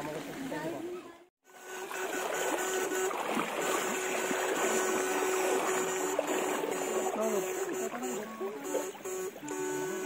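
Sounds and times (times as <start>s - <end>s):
river water splashing around legs: 1.6s - 10.0s.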